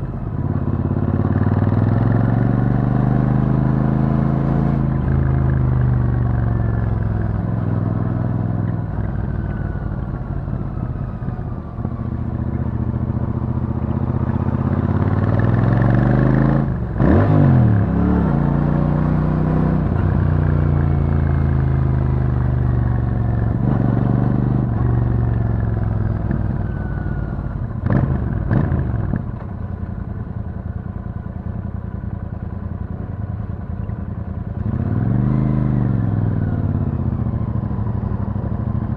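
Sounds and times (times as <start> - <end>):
motorcycle engine at low speed: 0.0 - 38.9.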